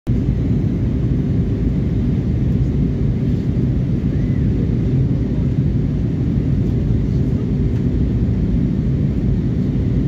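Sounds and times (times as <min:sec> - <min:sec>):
jet airliner cabin roar: 0:00.1 - 0:10.0.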